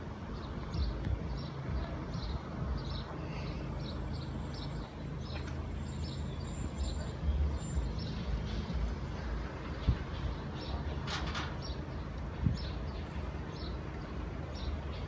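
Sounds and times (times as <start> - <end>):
wind rumbling on microphone: 0.0 - 4.7, 6.8 - 15.0.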